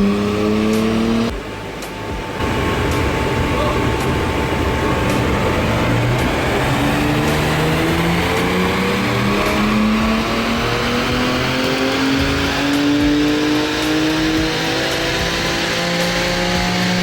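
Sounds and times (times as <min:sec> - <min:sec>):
car engine revving under load: 0:00.0 - 0:17.0.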